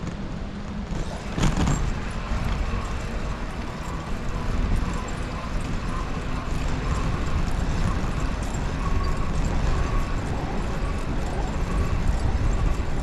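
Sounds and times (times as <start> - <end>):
wind on microphone: 0.0 - 13.0
bicycle tyres rumbling: 0.2 - 13.0.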